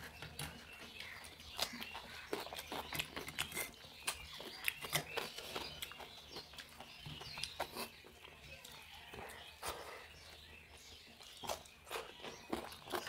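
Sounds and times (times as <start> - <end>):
chewing and lip smacks: 0.0 - 13.0.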